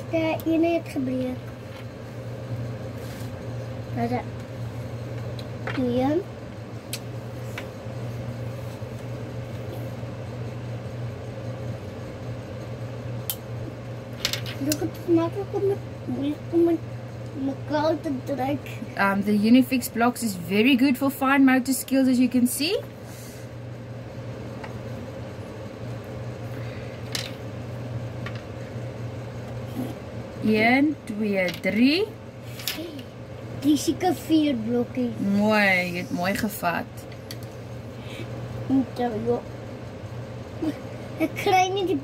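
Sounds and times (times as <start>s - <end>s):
low mechanical hum: 0.0s - 42.0s.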